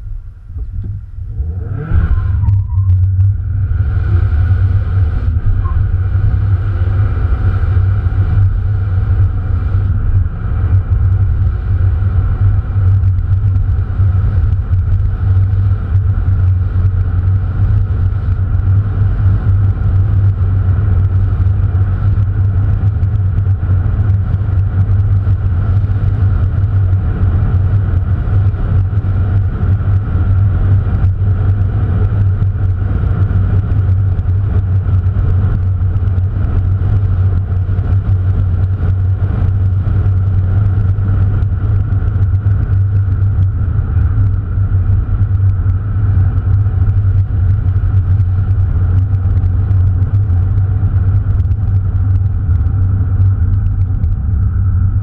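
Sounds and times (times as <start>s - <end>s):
car engine drone in cabin: 0.0s - 55.0s.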